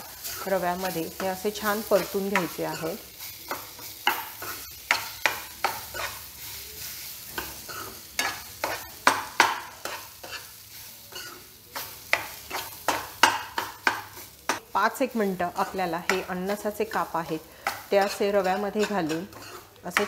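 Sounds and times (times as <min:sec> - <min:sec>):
ghee sizzling: 0:00.0 - 0:20.0
metal spoon scraping a pan: 0:00.0 - 0:20.0.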